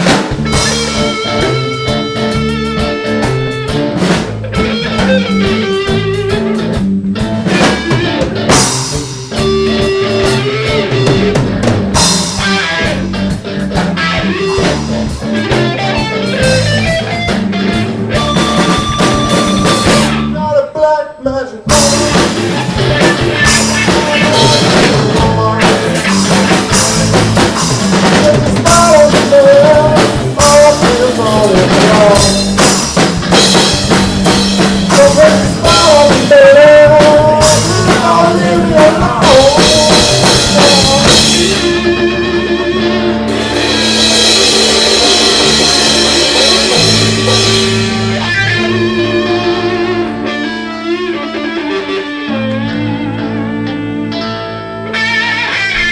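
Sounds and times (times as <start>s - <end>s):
drum kit: 0.0s - 20.5s, 21.7s - 55.9s
ringing electric guitar chords: 0.0s - 20.7s, 21.7s - 55.9s
live rock band playing: 0.0s - 55.9s.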